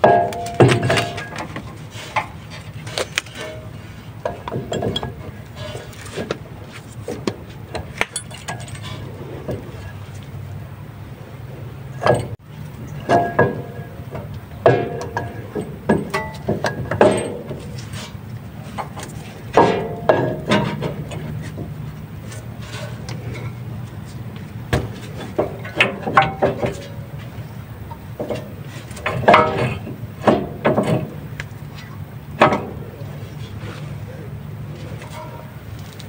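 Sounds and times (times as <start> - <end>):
metal clanks and knocks: 0.0 - 10.4, 11.8 - 36.0.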